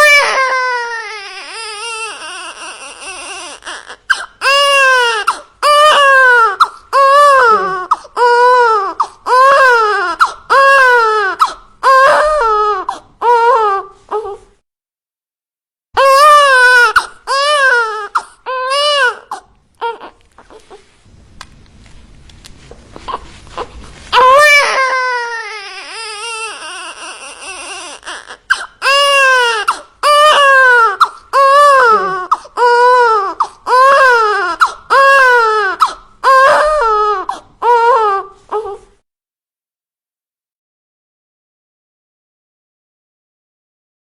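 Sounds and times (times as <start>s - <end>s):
baby crying: 0.0s - 14.6s, 16.0s - 20.8s, 23.0s - 39.0s.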